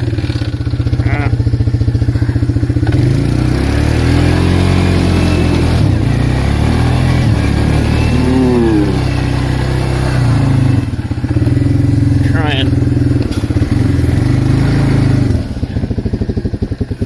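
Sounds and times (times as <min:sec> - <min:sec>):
atv engine revving hard: 0:00.0 - 0:17.0.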